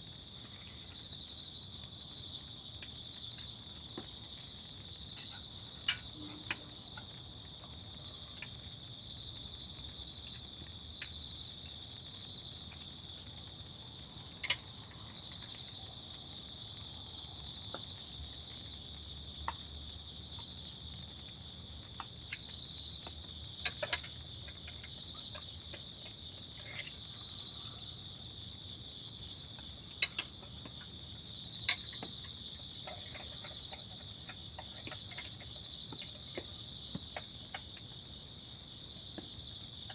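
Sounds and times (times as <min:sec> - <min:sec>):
insects chirping trill: 0:00.0 - 0:39.9.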